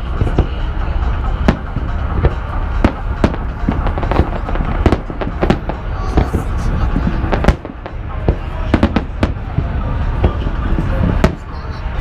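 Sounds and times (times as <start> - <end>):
fireworks exploding: 0.0 - 12.0
low rumble of bursts: 0.0 - 12.0.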